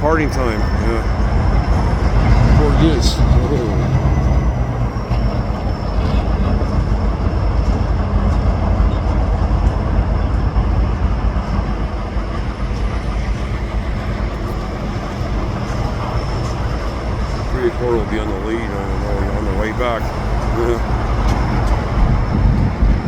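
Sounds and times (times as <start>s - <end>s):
diesel locomotive engine drone: 0.0s - 23.0s.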